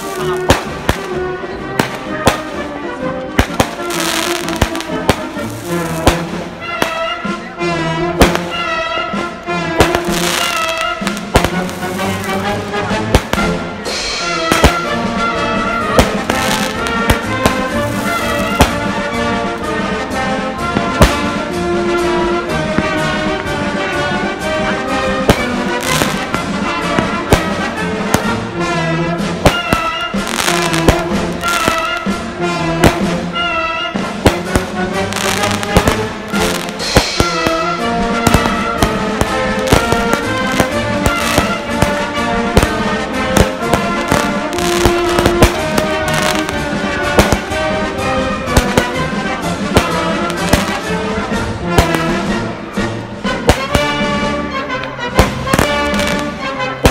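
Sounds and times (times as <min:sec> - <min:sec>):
fireworks bangs and crackles: 0:00.0 - 0:56.9
orchestral music with brass: 0:00.0 - 0:56.9.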